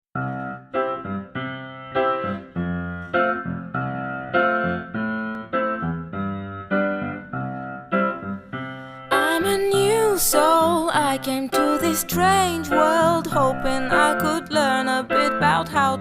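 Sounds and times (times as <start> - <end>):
piano chords: 0.2 - 16.0.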